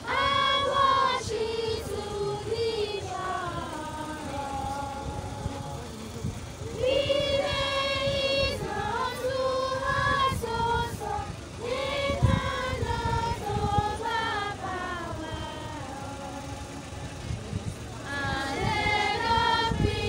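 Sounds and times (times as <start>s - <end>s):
female voices singing a hymn: 0.0s - 17.2s, 17.9s - 20.0s.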